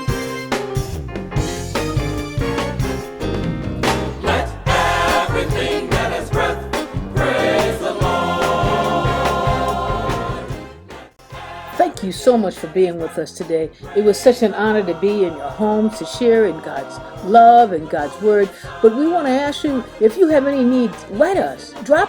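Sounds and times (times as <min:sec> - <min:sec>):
gospel singing over a steady beat: 0:03.8 - 0:22.0.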